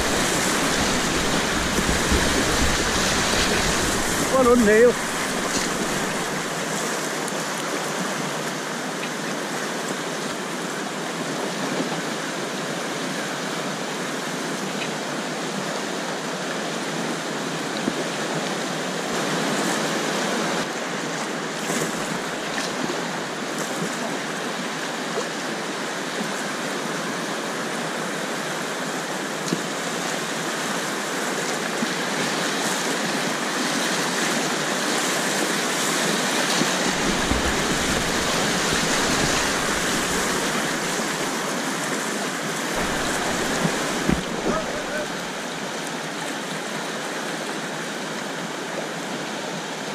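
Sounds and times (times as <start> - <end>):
whitewater rapids rushing: 0.0 - 49.9.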